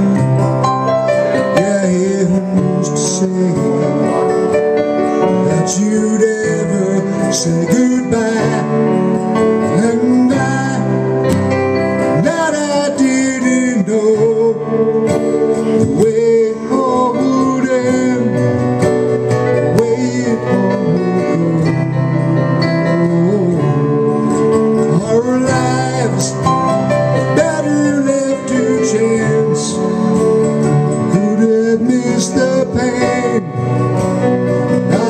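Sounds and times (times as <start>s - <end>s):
acoustic guitar: 0.0s - 35.0s
keyboard playing: 0.0s - 35.0s.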